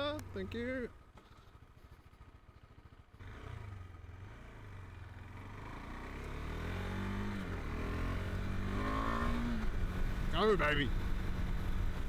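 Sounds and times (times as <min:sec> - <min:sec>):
motorcycle engine revving: 0:02.3 - 0:12.0.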